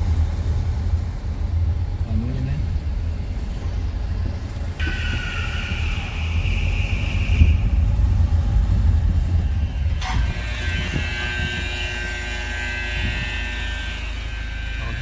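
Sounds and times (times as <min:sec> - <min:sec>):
elevator low rumble: 0:00.0 - 0:15.0
elevator higher hum: 0:02.6 - 0:15.0.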